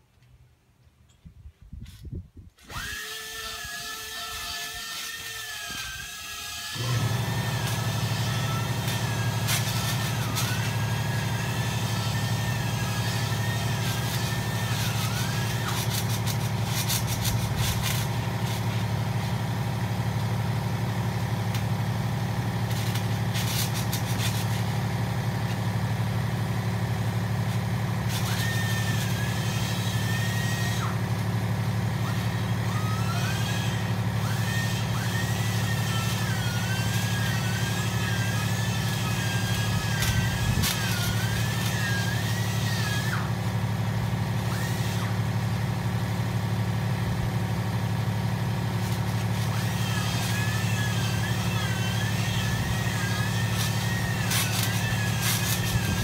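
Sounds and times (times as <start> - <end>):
motor running: 2.6 - 56.0
wavering high whine: 6.7 - 45.4, 47.9 - 56.0
loud low hum: 6.8 - 56.0.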